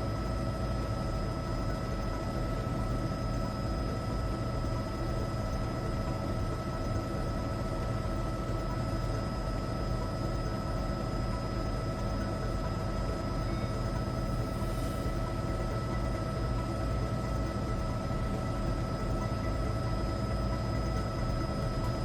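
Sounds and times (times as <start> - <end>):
helicopter cabin drone: 0.0 - 22.0.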